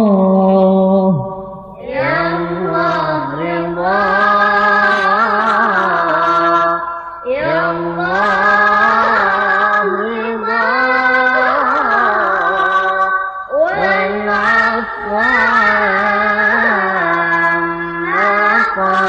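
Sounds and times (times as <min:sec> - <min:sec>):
devotional song with ornamented notes: 0:00.0 - 0:19.0.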